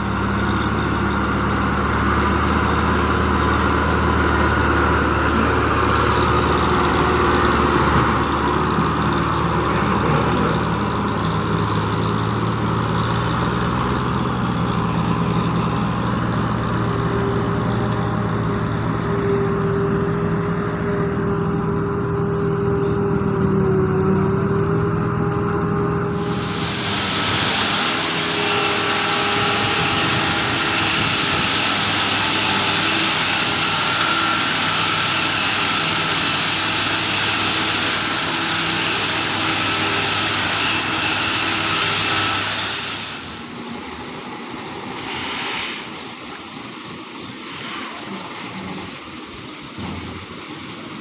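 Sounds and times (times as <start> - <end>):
forage harvester engine drone: 0.0 - 51.0.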